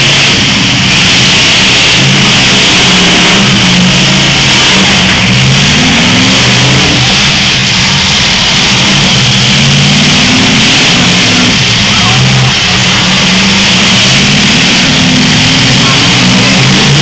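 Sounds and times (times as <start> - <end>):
car engines revving: 0.0 - 17.0
steady hiss: 0.0 - 17.0.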